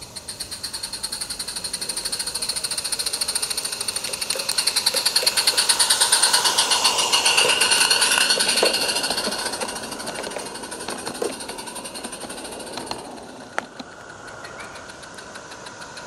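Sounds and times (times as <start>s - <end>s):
steam locomotive chuffing: 0.0s - 16.0s.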